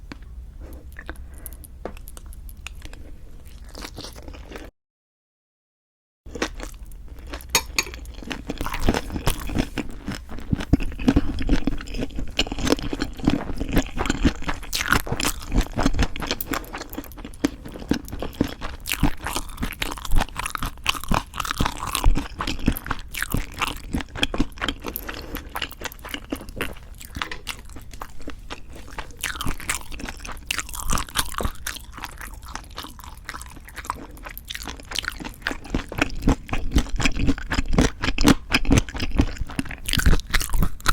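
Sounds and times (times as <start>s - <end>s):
crunching and chewing food: 0.0s - 4.7s, 6.3s - 40.9s.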